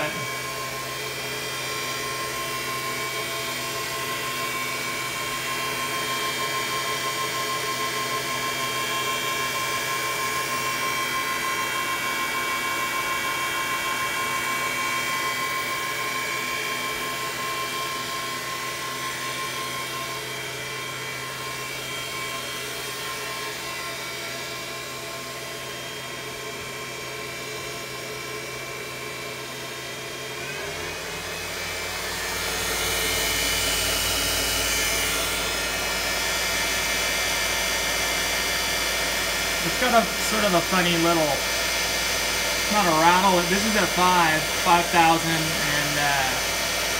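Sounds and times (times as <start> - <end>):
mill spindle whine: 0.0 - 46.9.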